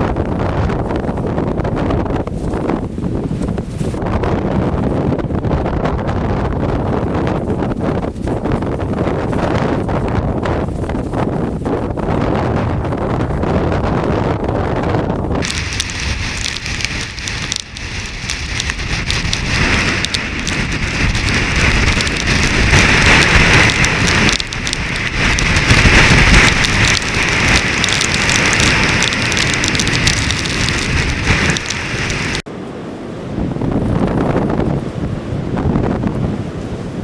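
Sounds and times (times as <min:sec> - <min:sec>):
snow pelting in blizzard: 0:00.0 - 0:37.0
wind rumbling on microphone: 0:00.0 - 0:37.0.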